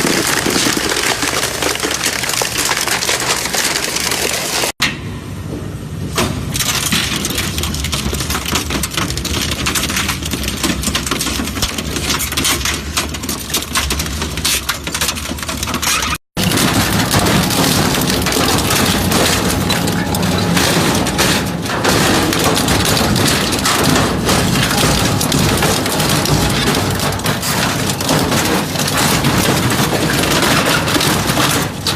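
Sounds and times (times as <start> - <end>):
metal clattering and crunching: 0.0 - 4.7, 6.2 - 31.9.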